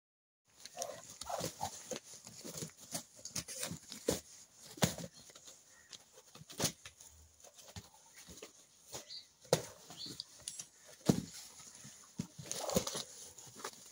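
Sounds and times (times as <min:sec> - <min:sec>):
bodies scuffling on dirt: 0:00.5 - 0:13.9
wings beating: 0:00.7 - 0:13.8.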